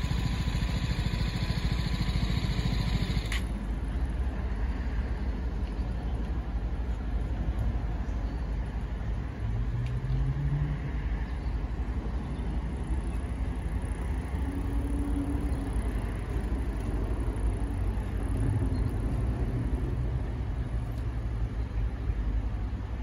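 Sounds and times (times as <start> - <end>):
low engine rumble: 0.0 - 9.6, 11.3 - 23.0.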